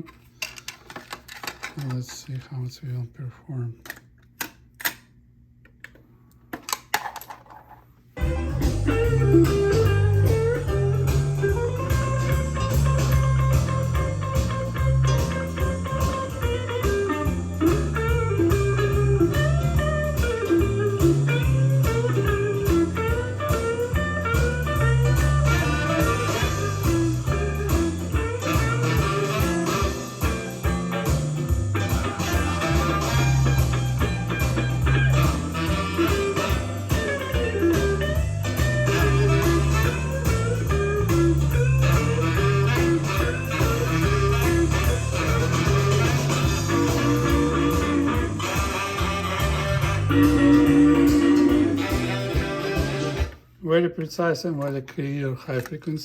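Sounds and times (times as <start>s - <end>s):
guitar blues music: 8.2s - 53.6s.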